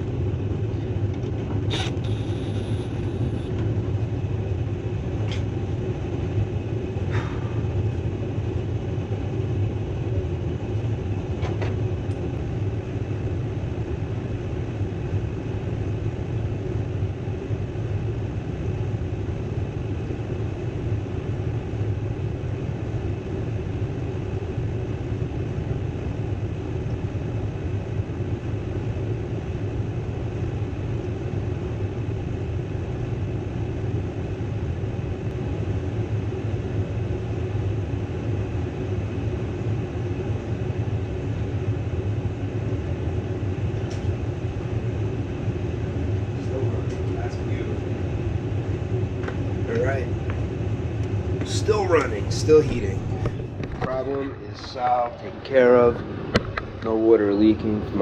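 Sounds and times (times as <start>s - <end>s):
furnace rumbling hum: 0.0s - 58.0s.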